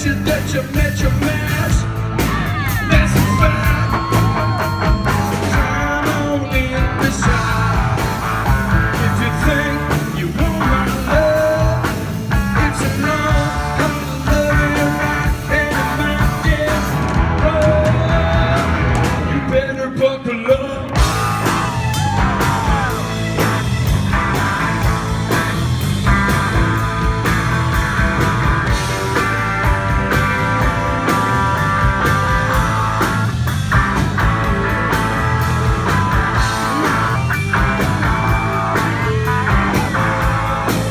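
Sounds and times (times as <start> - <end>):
live rock band playing: 0.0 - 19.9, 20.5 - 40.9
electric guitar lead bending notes: 0.8 - 19.5, 21.0 - 40.9.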